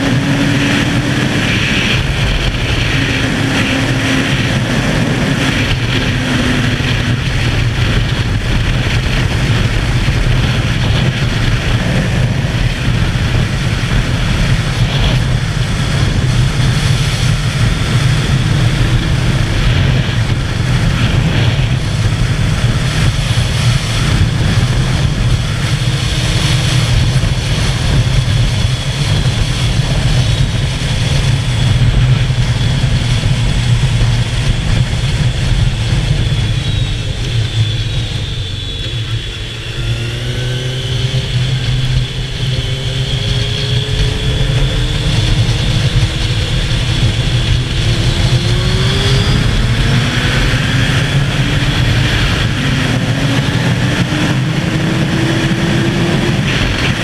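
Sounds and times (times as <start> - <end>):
motorcycle engine: 0.0 - 57.0
wind noise on microphone: 0.0 - 57.0.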